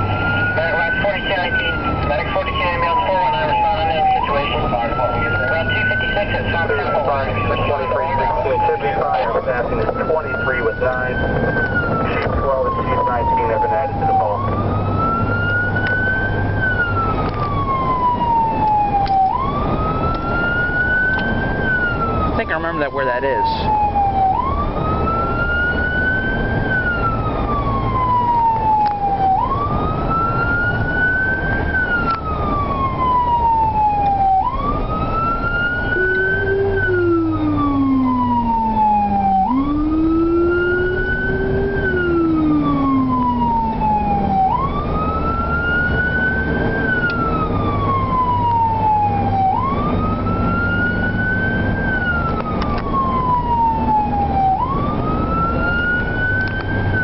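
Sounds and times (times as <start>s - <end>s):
low siren tone: 0.0s - 57.0s
siren wailing: 0.0s - 57.0s
vehicle engine and road noise: 0.0s - 57.0s.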